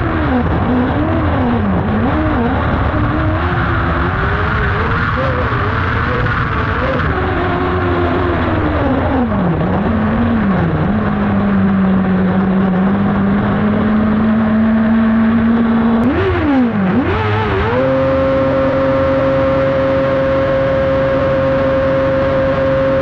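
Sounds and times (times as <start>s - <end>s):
kart engine revving: 0.0s - 23.0s.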